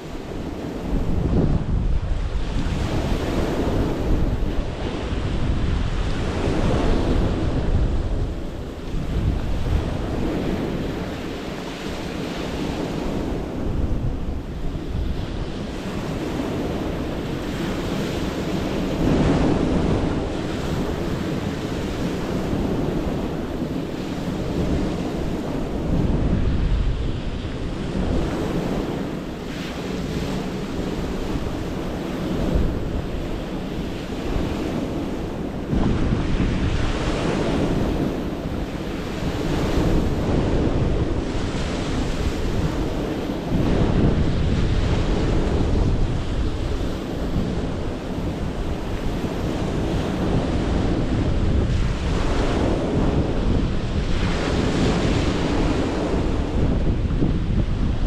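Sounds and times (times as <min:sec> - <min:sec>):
waves washing up stony beach: 0:00.0 - 0:58.0
wind on microphone: 0:00.0 - 0:58.0.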